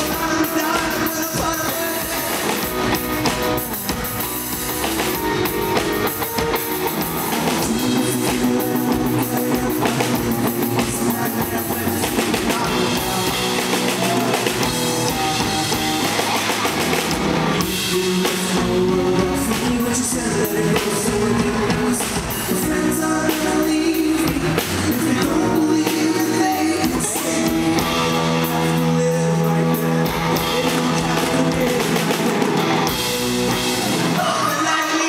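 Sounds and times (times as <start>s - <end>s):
man singing lead vocal: 0.0s - 3.1s, 6.1s - 16.2s, 17.5s - 33.0s, 33.8s - 35.0s
drum kit: 0.0s - 35.0s
electric guitar: 0.0s - 35.0s.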